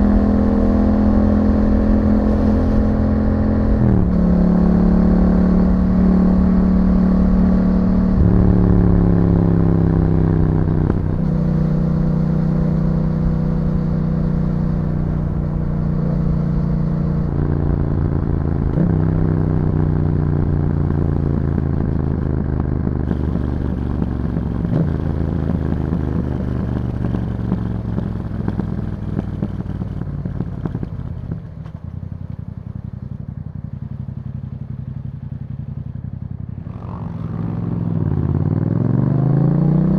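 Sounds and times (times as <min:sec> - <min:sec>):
motorcycle engine braking and downshifting: 0:00.0 - 0:39.9.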